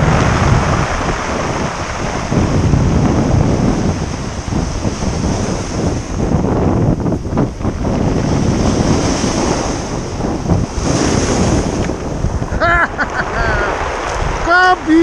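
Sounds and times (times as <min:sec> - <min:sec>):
surf on pebble beach: 0:00.0 - 0:15.0
wind buffeting microphone: 0:00.0 - 0:15.0.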